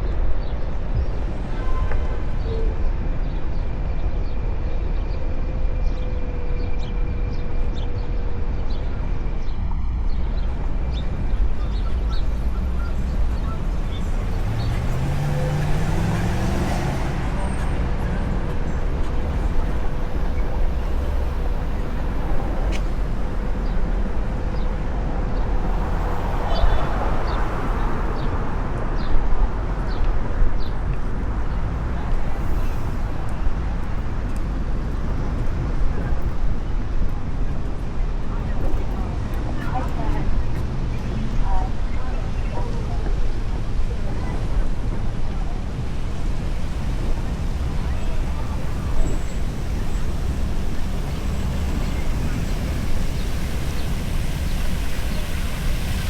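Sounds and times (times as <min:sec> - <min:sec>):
low rumble of traffic: 0:00.0 - 0:56.0
wind rushing over microphone: 0:00.0 - 0:56.0.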